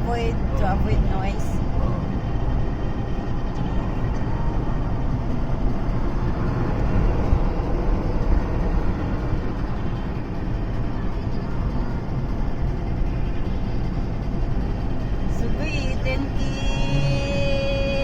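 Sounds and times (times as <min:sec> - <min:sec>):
tyre and engine rumble: 0:00.0 - 0:18.0.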